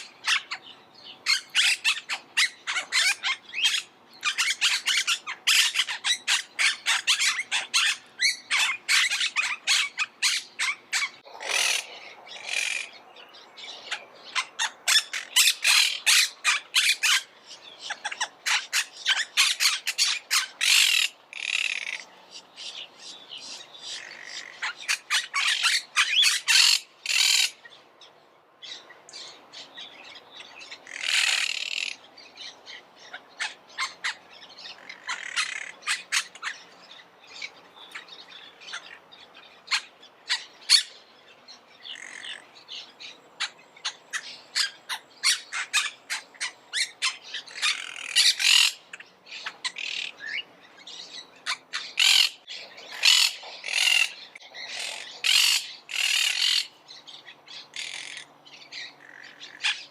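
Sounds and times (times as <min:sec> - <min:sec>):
parakeets squawking: 0:00.0 - 0:00.6, 0:01.2 - 0:13.0, 0:13.8 - 0:22.1, 0:23.9 - 0:27.6, 0:30.8 - 0:32.0, 0:33.0 - 0:39.0, 0:39.7 - 0:41.0, 0:43.4 - 0:50.4, 0:51.0 - 0:56.8, 0:57.5 - 0:59.9.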